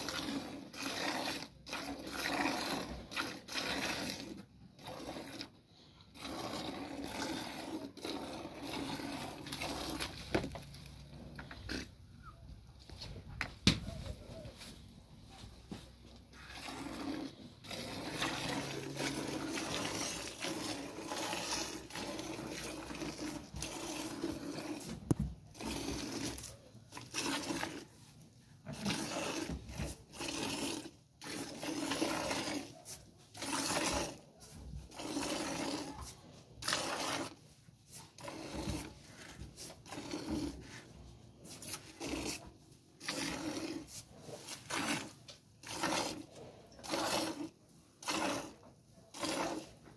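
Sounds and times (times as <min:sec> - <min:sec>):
milk squirting into bucket: 0:00.0 - 0:11.9, 0:16.2 - 0:49.9.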